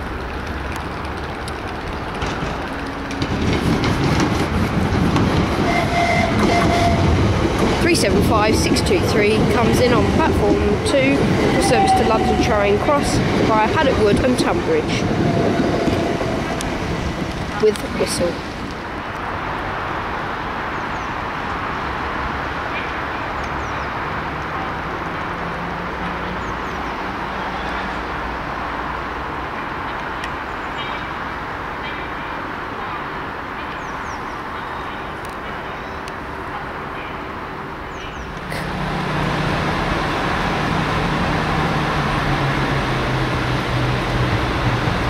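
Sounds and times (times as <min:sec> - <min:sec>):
diesel train engine hum: 0:00.0 - 0:45.0
train approaching rumble: 0:00.0 - 0:45.0.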